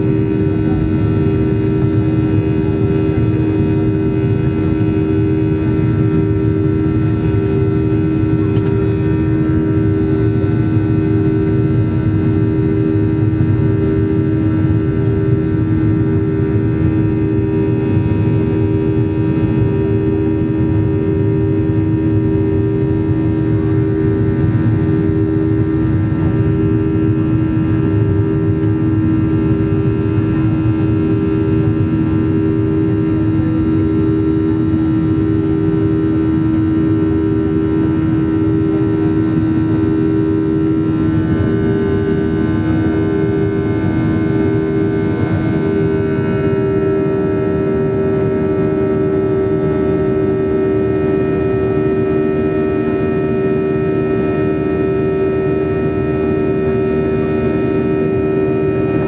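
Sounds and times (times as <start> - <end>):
jet engines droning in cabin: 0.0 - 59.0.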